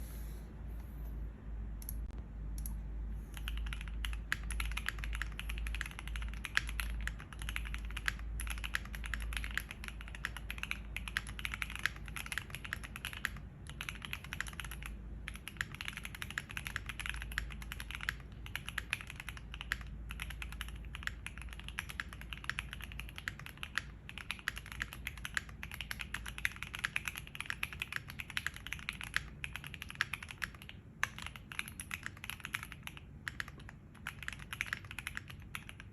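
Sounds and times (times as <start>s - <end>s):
mechanical keyboard typing: 1.8s - 35.9s.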